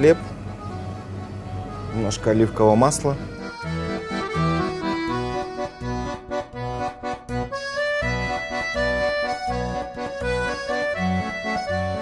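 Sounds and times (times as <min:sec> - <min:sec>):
accordion-led tune with bass: 0:00.0 - 0:12.0.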